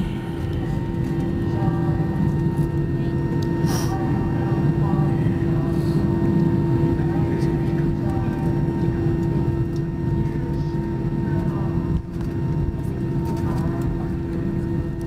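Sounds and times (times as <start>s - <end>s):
jet engines idling rumble: 0.0s - 15.0s.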